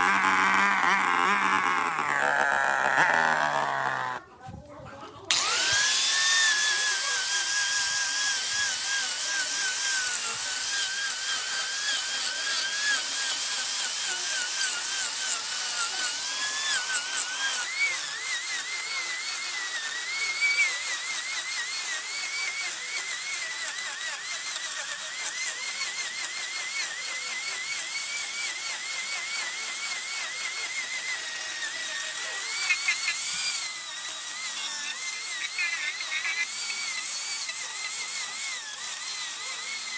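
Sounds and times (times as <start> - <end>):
power tool whining on wood: 0.0 - 4.3, 5.1 - 39.9.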